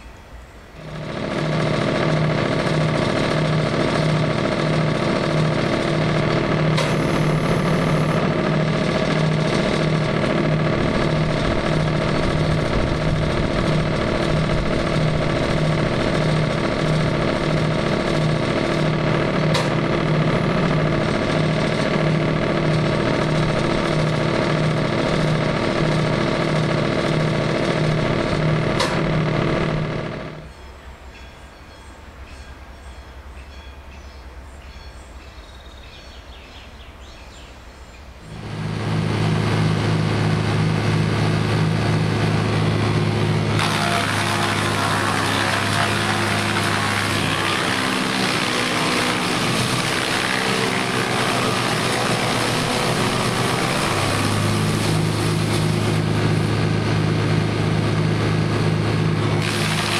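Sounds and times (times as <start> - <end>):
wood chipper engine running: 0.8 - 30.6, 38.2 - 59.9.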